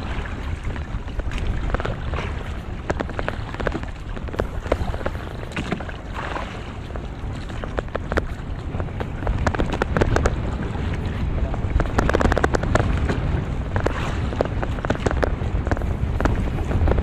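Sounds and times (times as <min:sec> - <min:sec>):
water splashing: 0:00.0 - 0:17.0
wind on microphone: 0:00.0 - 0:17.0.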